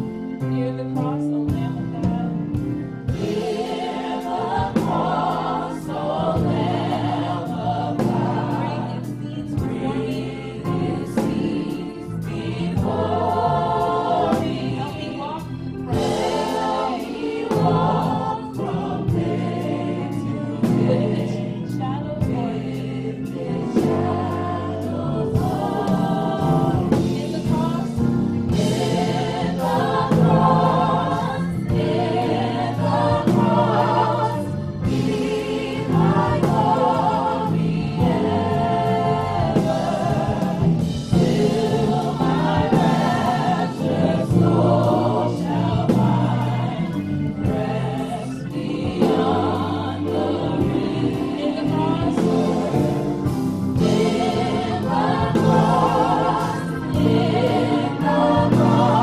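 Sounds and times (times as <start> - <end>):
vocal group singing in harmony: 0.0 - 59.0
accompaniment with steady beat: 1.5 - 59.0.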